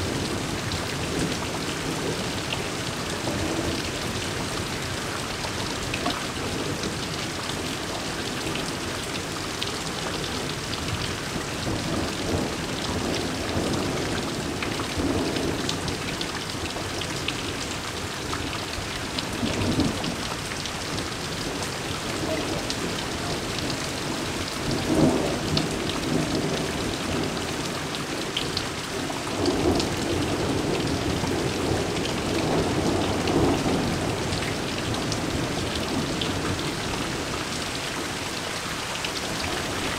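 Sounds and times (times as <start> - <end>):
heavy rain pouring on leaves: 0.0 - 39.9.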